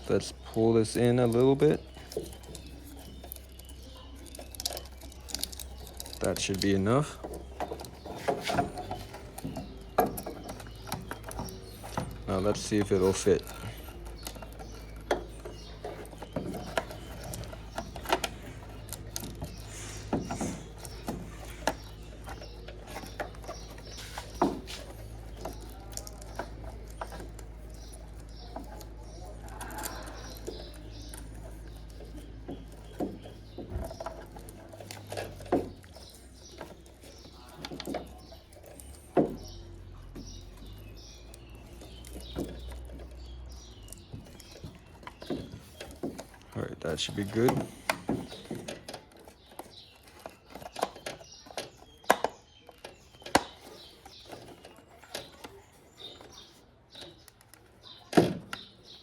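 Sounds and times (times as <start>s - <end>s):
birds chirping: 0.0s - 59.0s
plastic clicks and knocks: 0.0s - 59.0s.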